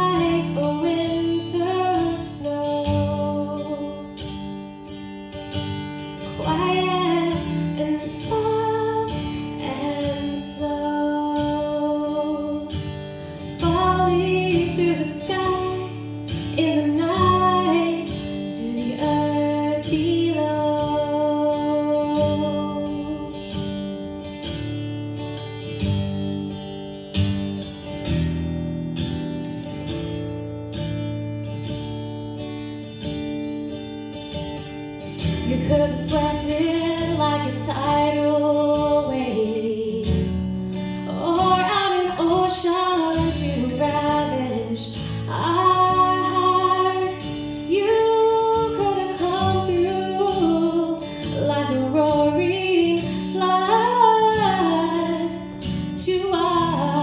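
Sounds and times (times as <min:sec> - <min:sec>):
woman singing: 0:00.0 - 0:24.1, 0:35.1 - 0:57.0
strummed acoustic guitar: 0:00.0 - 0:57.0.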